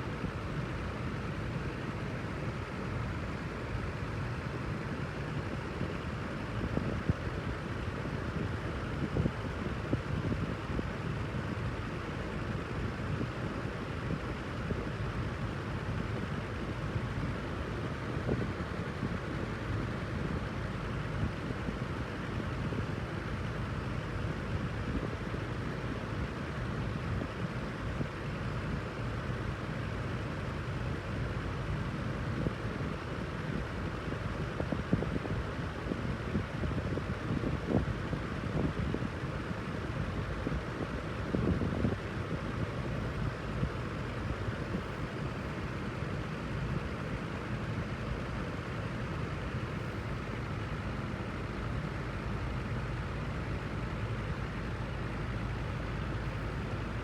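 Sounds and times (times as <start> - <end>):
wind machine fan rushing air: 0.0 - 57.0.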